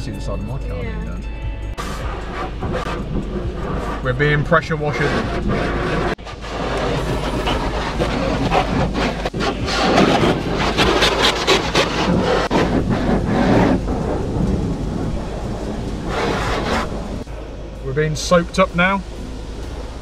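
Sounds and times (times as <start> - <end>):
pressure-washer water hitting car: 1.8 - 20.0.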